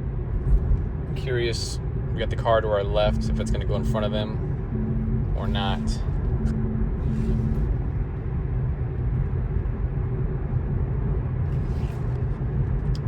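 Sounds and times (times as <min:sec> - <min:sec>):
low pulsing hum: 0:00.0 - 0:13.0
road and tyre noise in car cabin: 0:00.0 - 0:13.0.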